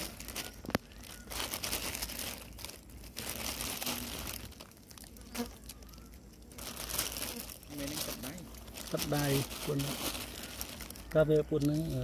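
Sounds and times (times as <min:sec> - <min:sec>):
crinkling crackling rustle: 0:00.0 - 0:12.0.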